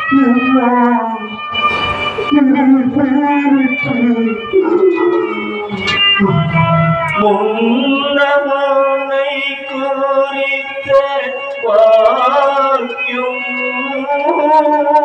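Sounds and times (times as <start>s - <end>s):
man singing chant-like melody: 2.3s - 15.0s.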